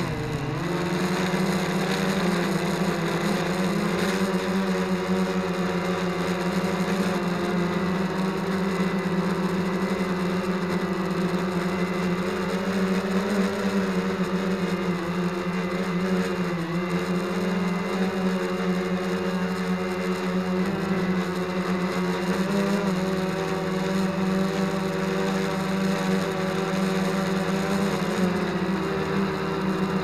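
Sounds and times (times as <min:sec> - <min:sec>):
drone propellers whirring: 0:00.0 - 0:30.0.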